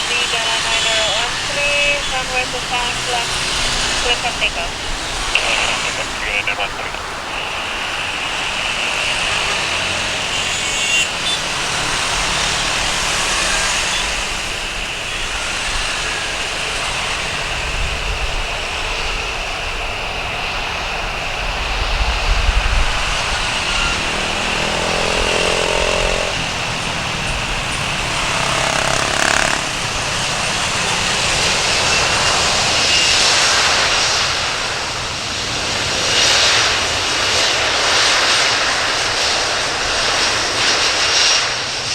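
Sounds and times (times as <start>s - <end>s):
jet engines rushing and whining: 0.0s - 41.9s.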